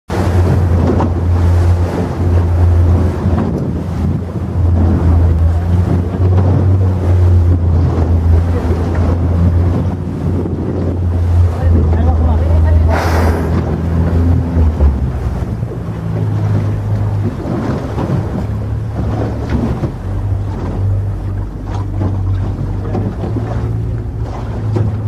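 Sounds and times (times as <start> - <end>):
boat engine humming: 0.1 - 25.0
sea water: 0.1 - 25.0
wind on microphone: 0.1 - 25.0.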